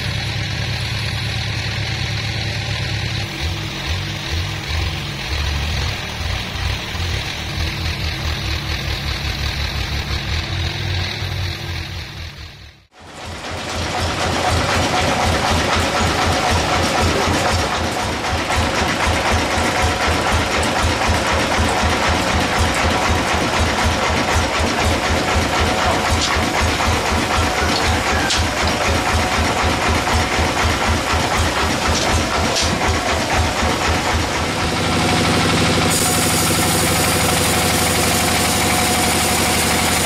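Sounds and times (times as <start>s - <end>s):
engine running with low beat: 0.0s - 40.0s.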